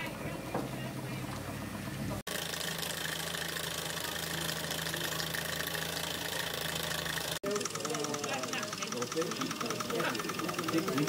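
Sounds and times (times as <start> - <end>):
model steam engine chuffing: 0.0 - 11.0.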